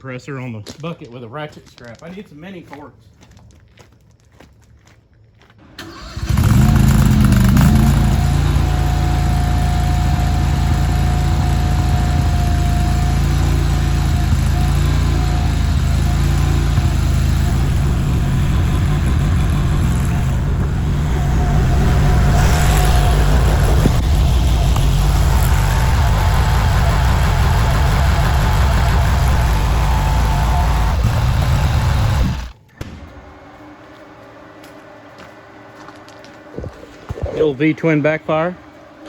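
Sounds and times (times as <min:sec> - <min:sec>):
skid steer engine running: 0:05.6 - 0:37.3.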